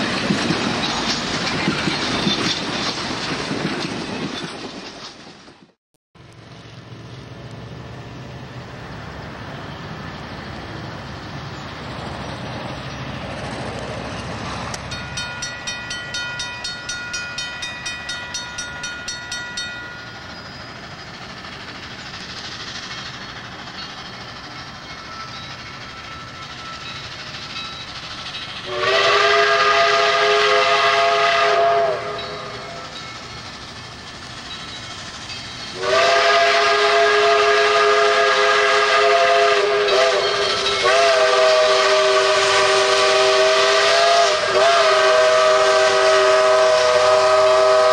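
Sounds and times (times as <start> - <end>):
train wheels clickety-clack: 0.0 - 5.8, 11.6 - 47.9
steam locomotive working: 0.0 - 47.9.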